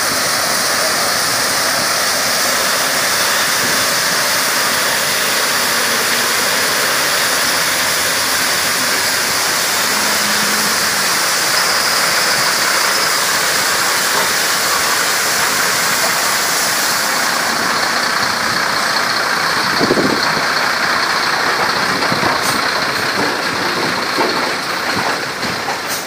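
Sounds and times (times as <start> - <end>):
truck engine running: 0.0 - 26.0
water jets spraying: 0.0 - 26.0.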